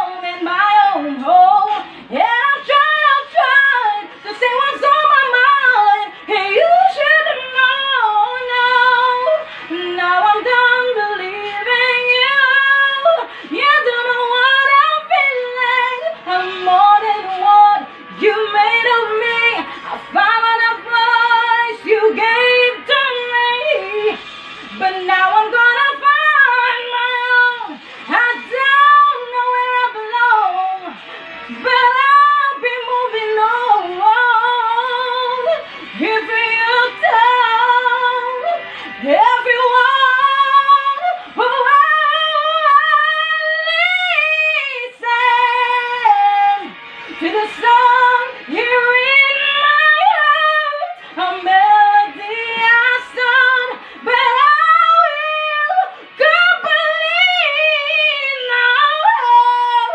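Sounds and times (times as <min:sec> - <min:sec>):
woman belting pop ballad ad-libs: 0:00.0 - 0:59.9.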